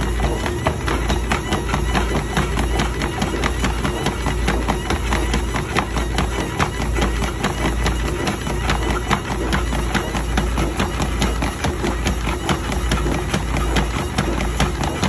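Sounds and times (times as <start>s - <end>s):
treadmill motor hum: 0.0s - 15.0s.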